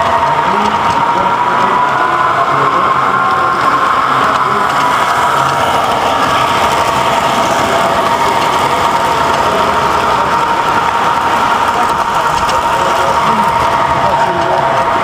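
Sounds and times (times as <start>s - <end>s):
constant whine: 0.0s - 15.0s
toy train motors whirring: 0.0s - 15.0s.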